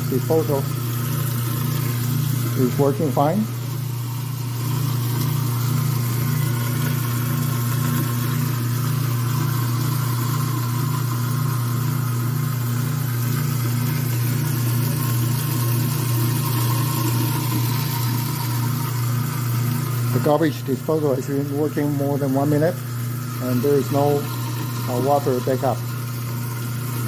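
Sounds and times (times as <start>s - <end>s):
garbage disposal motor hum: 0.0s - 27.0s
water flowing: 0.0s - 27.0s.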